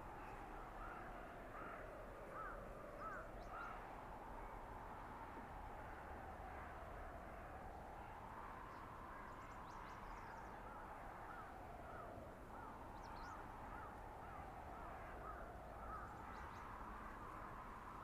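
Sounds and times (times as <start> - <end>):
howling blizzard wind: 0.0 - 18.0.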